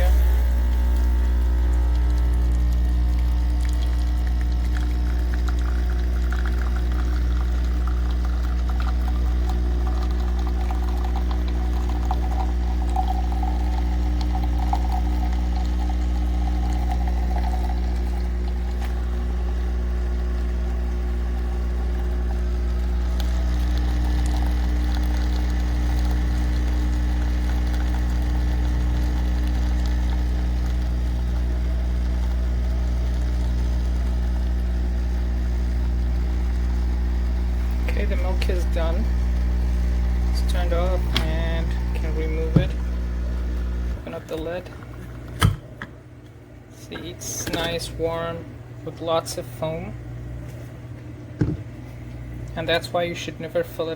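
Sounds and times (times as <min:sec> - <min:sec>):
coffee pouring into mug: 0:00.0 - 0:45.8
coffee machine pump humming: 0:00.0 - 0:53.9.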